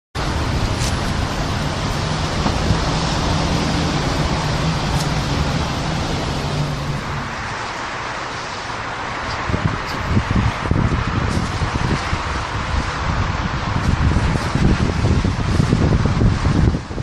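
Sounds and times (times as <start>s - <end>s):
road traffic noise: 0.1s - 17.0s
passing vehicle engine hum: 0.2s - 17.0s.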